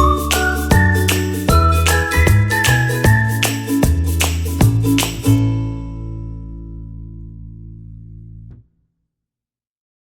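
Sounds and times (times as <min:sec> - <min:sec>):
held bass notes: 0:00.0 - 0:08.6.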